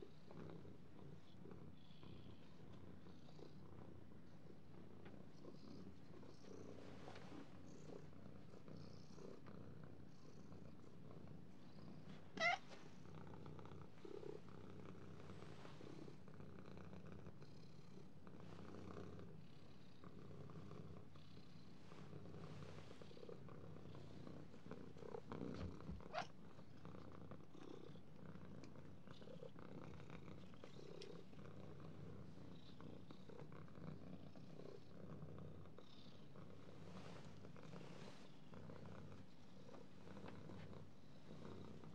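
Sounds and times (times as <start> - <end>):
cat purring: 0.0 - 41.9.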